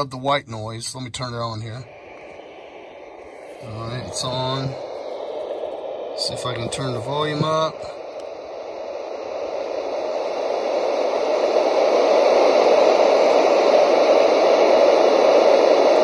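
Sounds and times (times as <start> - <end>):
white noise machine hiss: 0.0 - 16.0.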